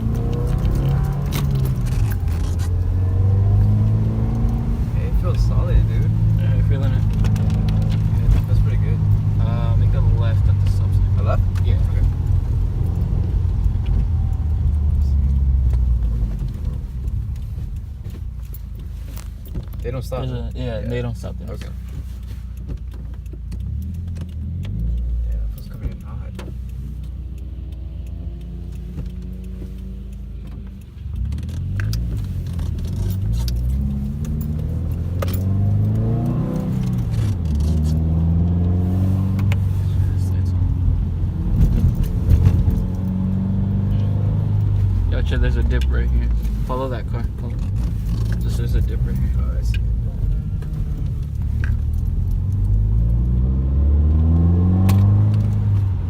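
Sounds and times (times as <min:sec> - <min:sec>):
light clicks and rattles: 0:00.0 - 0:53.4
car engine drone inside car: 0:00.0 - 0:56.0
road noise: 0:00.0 - 0:56.0.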